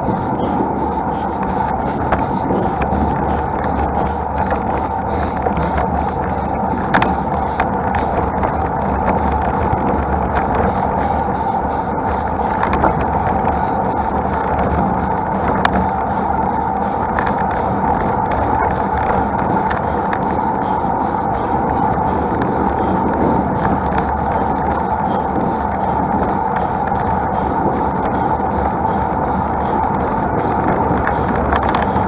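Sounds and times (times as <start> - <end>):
road and wind noise: 0.0 - 32.0
small clicks and rattles: 0.0 - 32.0.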